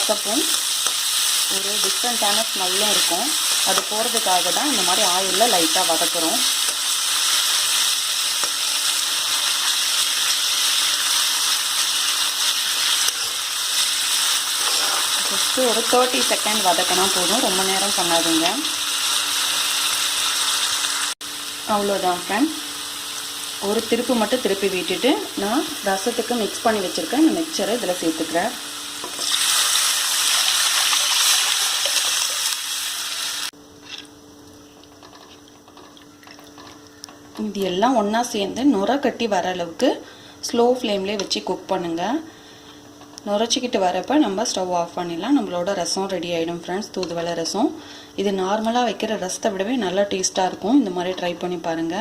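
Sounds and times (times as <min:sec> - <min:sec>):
leaves sizzling in hot oil: 0:00.0 - 0:52.0.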